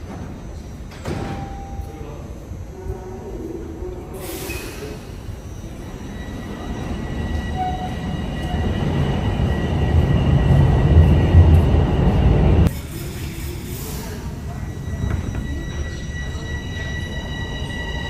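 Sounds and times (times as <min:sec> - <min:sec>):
subway train rumble: 0:00.0 - 0:18.0.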